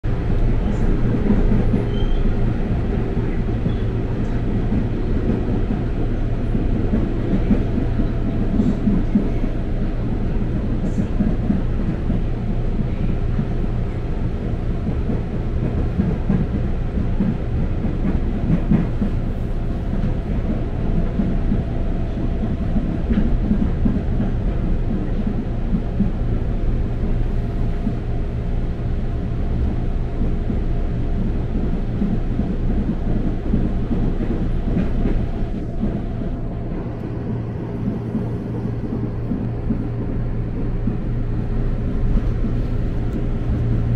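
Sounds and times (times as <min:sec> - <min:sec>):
train rumble inside car: 0:00.0 - 0:43.9.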